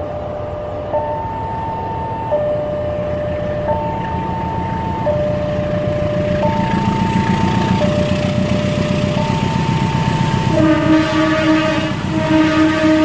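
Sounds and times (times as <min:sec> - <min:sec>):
two-tone crossing chime: 0:00.0 - 0:10.7
diesel train rumble: 0:00.0 - 0:13.0.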